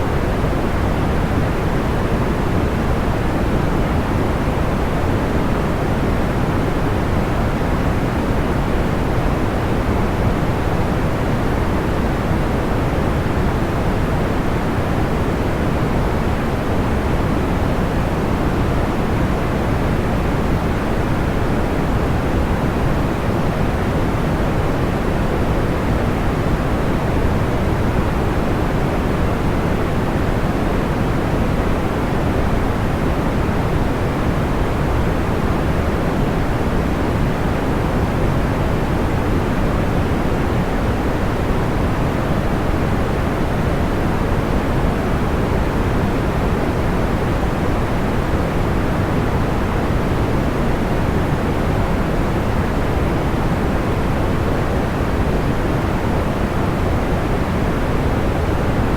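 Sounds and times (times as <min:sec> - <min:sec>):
low-weighted white noise: 0:00.0 - 0:58.9.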